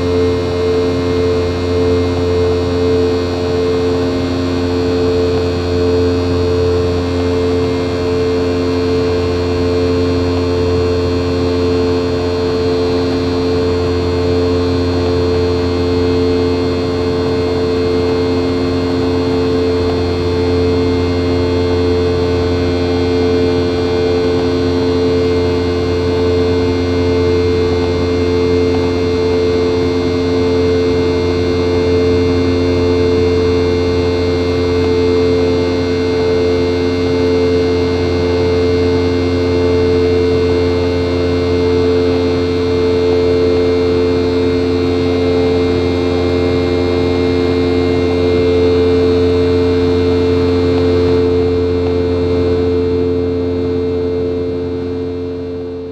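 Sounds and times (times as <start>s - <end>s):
jet engine drone in cabin: 0.0s - 55.9s.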